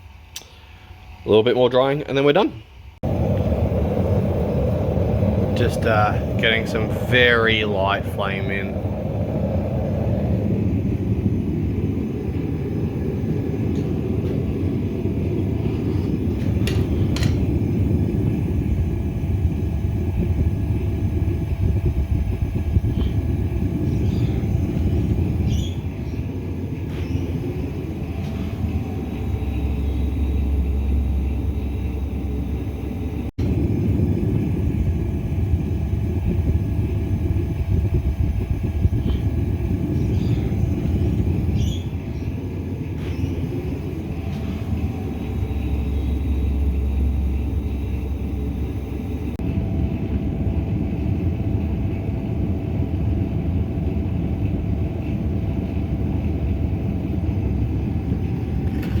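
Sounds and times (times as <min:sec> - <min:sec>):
gas burner rumbling: 0:00.0 - 0:59.0.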